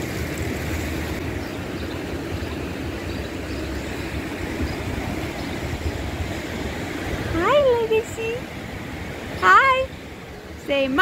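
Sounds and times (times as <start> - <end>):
wind buffeting microphone: 0.0 - 11.0
surf rushing: 2.2 - 11.0.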